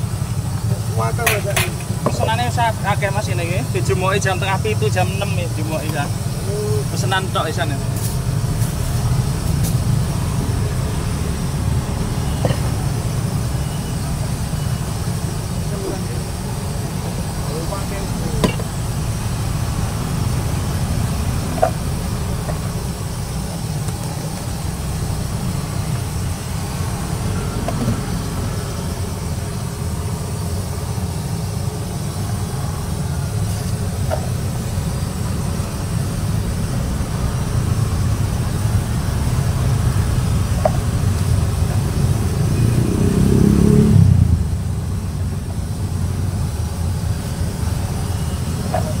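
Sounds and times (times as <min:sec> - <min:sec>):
gas burner rumbling: 0:00.0 - 0:49.0.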